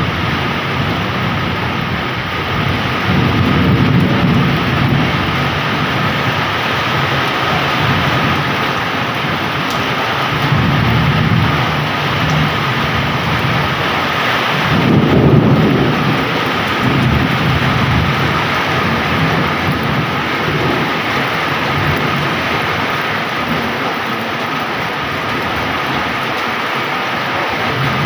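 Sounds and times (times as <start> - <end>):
heavy rain pouring: 0.0 - 28.0
thunder rumbling: 0.0 - 28.0.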